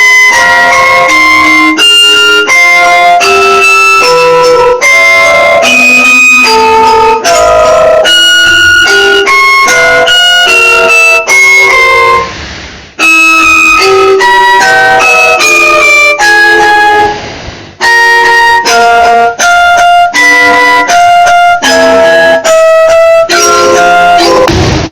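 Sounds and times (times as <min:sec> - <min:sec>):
alert melody of reedy chords: 0:00.0 - 0:12.3, 0:13.0 - 0:17.2, 0:17.8 - 0:24.6.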